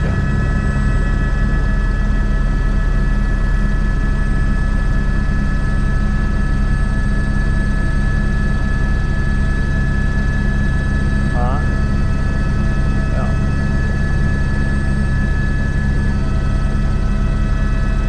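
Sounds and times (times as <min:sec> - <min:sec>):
helicopter in flight: 0:00.0 - 0:18.0.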